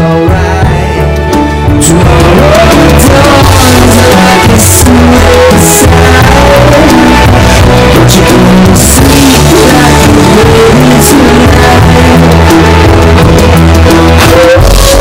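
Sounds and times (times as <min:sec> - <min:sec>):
song with singing voice: 0:00.0 - 0:15.0.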